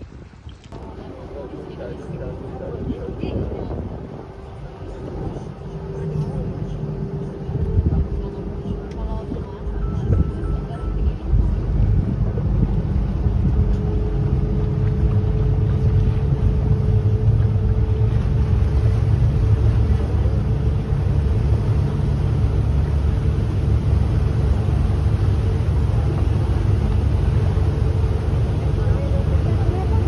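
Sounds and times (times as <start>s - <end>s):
boat engine rumbling: 0.0s - 30.0s
water rushing along hull: 0.0s - 30.0s.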